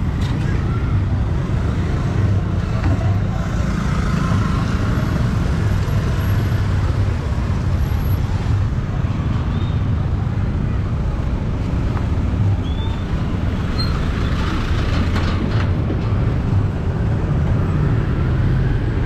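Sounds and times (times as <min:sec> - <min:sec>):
scooters and cars passing: 0:00.0 - 0:19.0.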